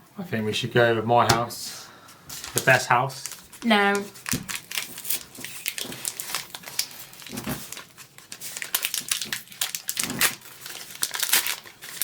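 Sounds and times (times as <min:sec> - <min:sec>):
wrapper crinkling and tearing: 0:02.3 - 0:12.0.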